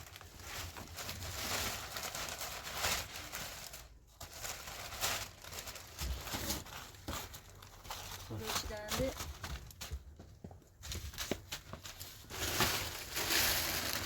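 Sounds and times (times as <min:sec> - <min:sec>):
rustling and crinkling handling: 0:00.0 - 0:14.0.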